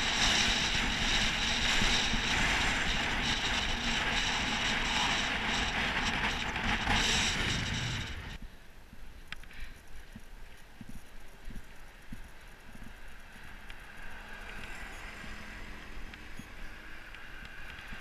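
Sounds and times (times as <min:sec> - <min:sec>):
bicycle freewheel ticking: 0:00.0 - 0:08.4, 0:11.0 - 0:18.0
wind rushing over camera: 0:00.0 - 0:18.0.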